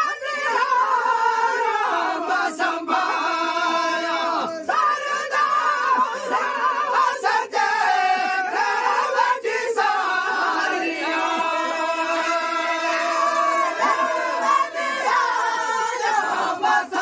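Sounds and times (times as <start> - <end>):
men singing devotional chant: 0.0 - 17.0.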